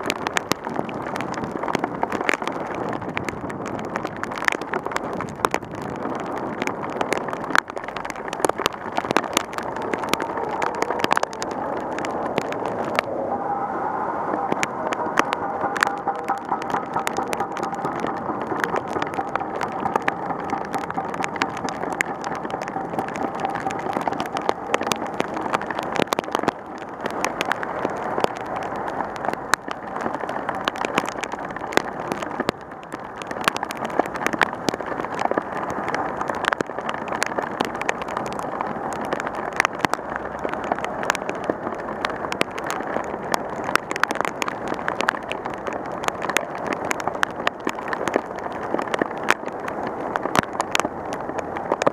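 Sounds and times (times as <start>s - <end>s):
passing traffic: 0.0s - 51.9s
rain drops clicking on camera: 0.0s - 51.9s
tyre spray on flooded road: 0.0s - 51.9s.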